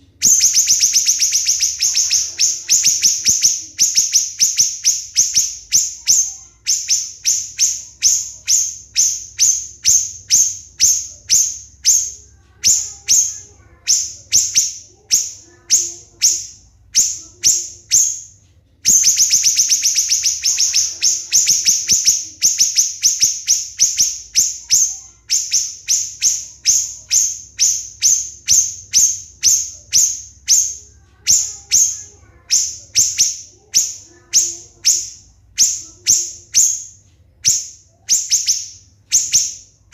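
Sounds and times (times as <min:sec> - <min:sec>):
bird singing high piercing notes: 0:00.2 - 0:39.9.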